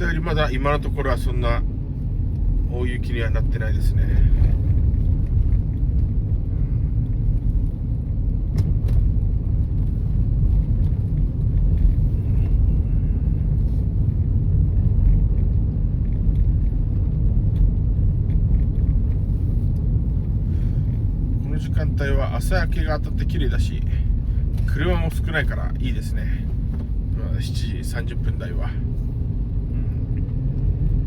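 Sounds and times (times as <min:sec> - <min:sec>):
car driving rumble inside cabin: 0:00.0 - 0:31.0.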